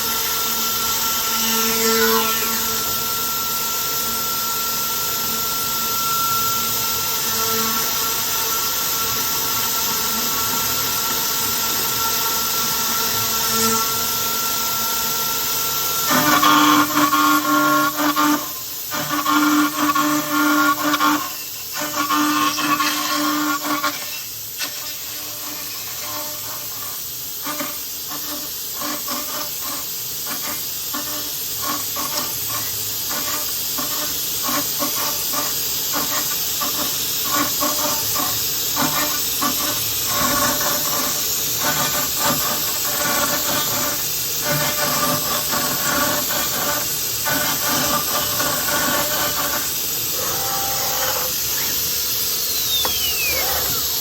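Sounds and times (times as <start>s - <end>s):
machine spindle hissing: 0.0s - 54.0s.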